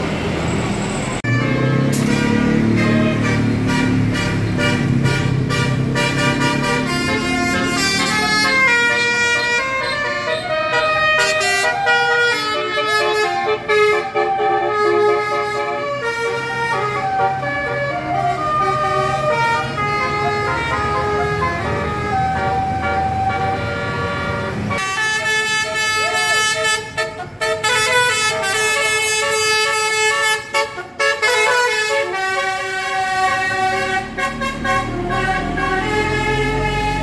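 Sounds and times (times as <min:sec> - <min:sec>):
bus engine rumble: 0:00.0 - 0:37.0
multi-tone musical air horn: 0:01.2 - 0:37.0.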